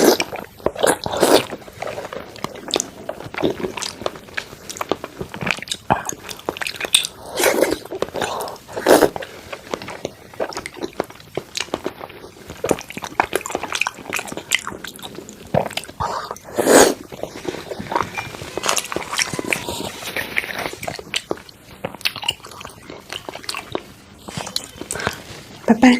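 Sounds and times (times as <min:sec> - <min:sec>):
close chewing and mouth sounds: 0:00.0 - 0:25.7.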